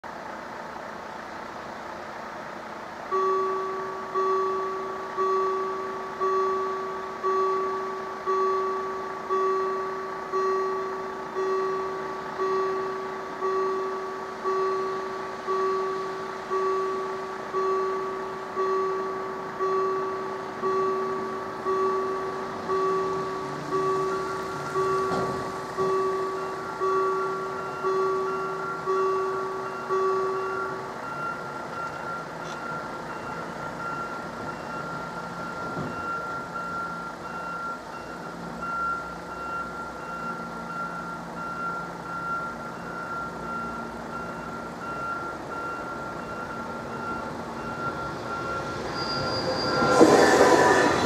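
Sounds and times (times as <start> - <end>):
level crossing warning bell: 0.8 - 51.0.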